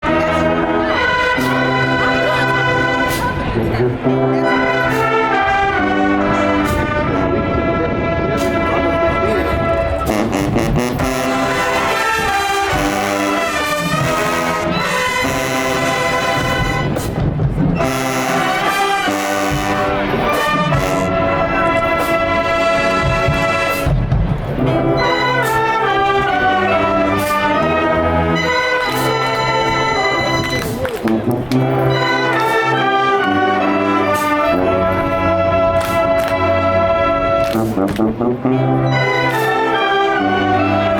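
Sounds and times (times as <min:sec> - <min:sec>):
brass band playing: 0:00.0 - 0:40.9.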